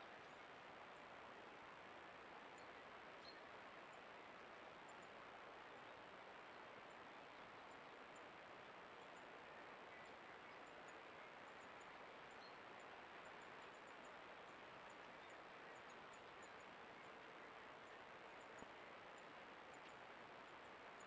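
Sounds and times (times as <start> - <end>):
microphone hiss: 0.0 - 21.0.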